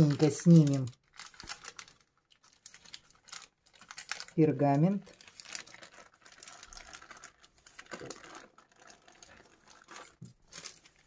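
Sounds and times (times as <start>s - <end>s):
paper crackling and rustling: 0.0s - 11.0s.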